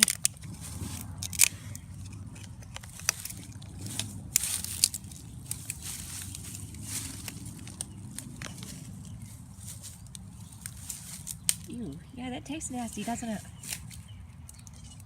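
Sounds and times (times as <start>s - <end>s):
cockatoo chewing plant material: 0.0s - 15.0s.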